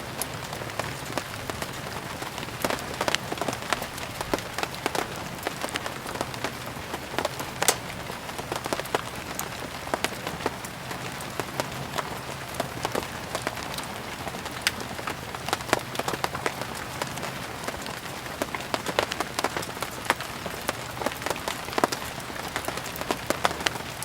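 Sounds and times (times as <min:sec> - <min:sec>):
steady rain falling: 0:00.0 - 0:24.0
firewood popping and crackling: 0:00.1 - 0:24.0.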